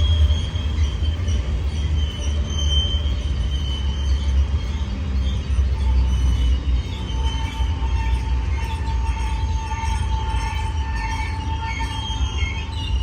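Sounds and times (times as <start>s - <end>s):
low train rumble: 0.0s - 13.0s
train wheels and brakes squealing: 0.0s - 13.0s.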